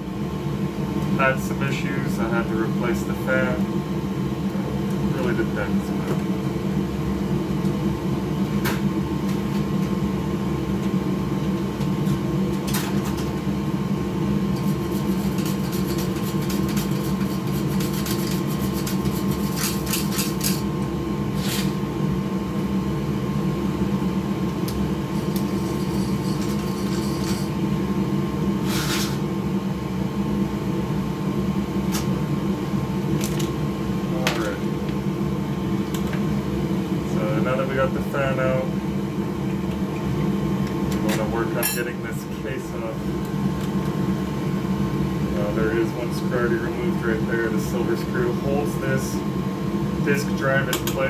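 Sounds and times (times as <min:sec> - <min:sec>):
droning machine hum: 0:00.0 - 0:51.0.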